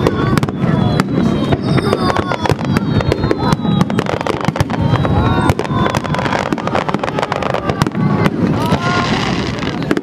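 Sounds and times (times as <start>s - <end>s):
fireworks bangs and crackles: 0.0s - 10.0s
fireworks whistling: 0.0s - 10.0s.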